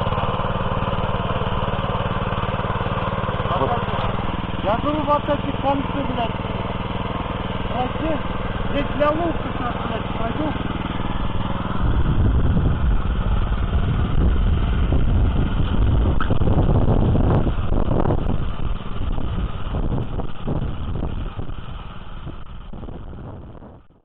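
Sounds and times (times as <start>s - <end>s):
tines churning soil: 0.0s - 23.4s
cultivator engine under load: 0.0s - 24.0s.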